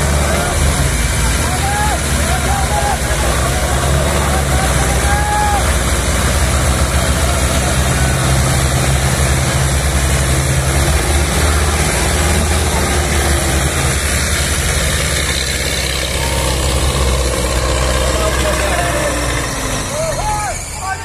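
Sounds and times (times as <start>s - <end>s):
tractor engine straining: 0.0s - 21.0s.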